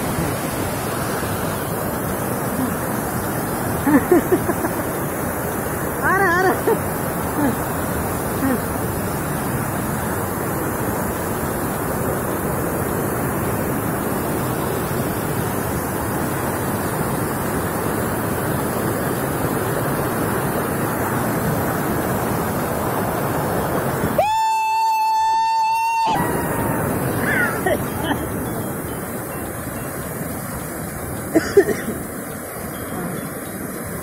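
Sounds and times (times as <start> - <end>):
river rapids rushing: 0.0 - 34.0.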